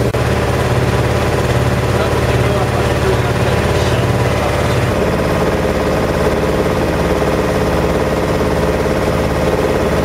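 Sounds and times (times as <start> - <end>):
boat engine throbbing: 0.0 - 10.0.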